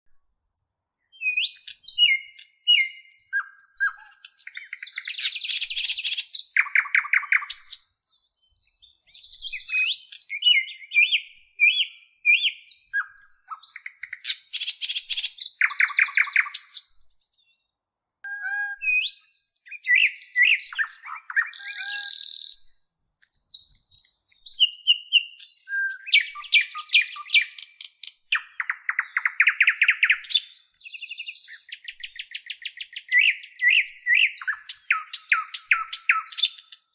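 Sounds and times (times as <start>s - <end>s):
birds singing and calling: 0.6s - 36.9s.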